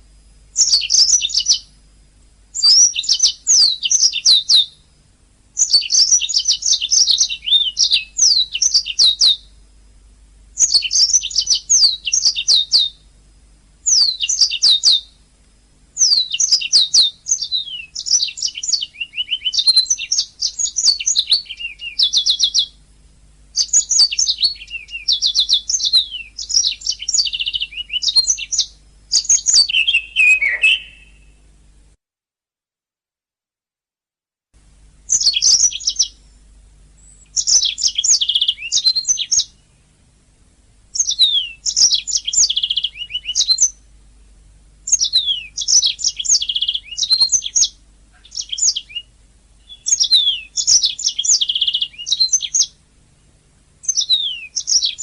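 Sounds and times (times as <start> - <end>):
canary singing trills: 0.5 - 1.8, 2.5 - 5.0, 5.6 - 9.6, 10.6 - 13.1, 13.8 - 15.2, 16.0 - 22.8, 23.5 - 31.4, 35.1 - 40.0, 40.9 - 43.9, 44.8 - 55.0.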